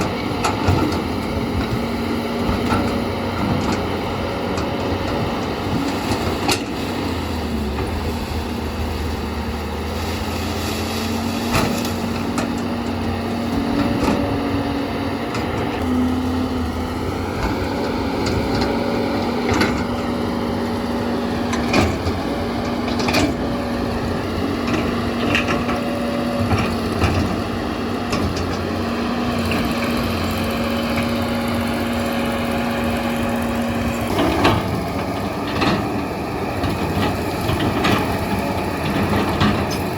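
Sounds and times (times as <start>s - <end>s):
diesel machine running: 0.0s - 39.9s.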